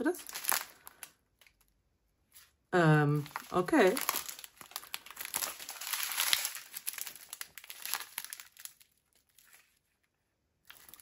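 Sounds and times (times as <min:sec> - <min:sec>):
plastic bags crinkling: 0:00.0 - 0:01.8, 0:03.2 - 0:09.9, 0:10.6 - 0:11.0.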